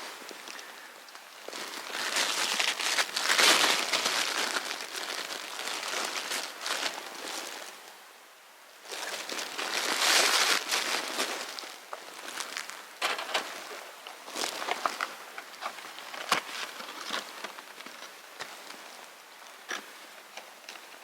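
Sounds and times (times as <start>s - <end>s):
rustling crinkling: 0.0s - 7.8s, 8.8s - 21.0s.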